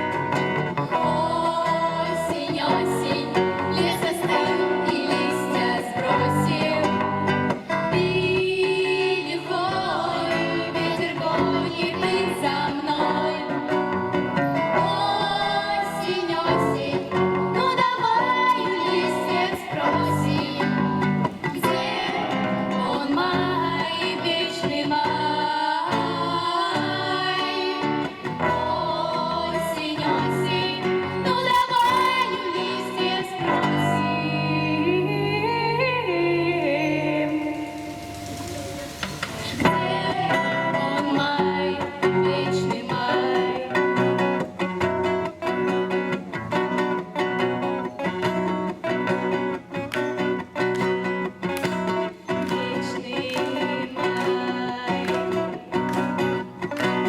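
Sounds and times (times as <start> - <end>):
women singing together: 0.0 - 44.8, 51.7 - 57.0
guitar accompaniment: 0.0 - 57.0.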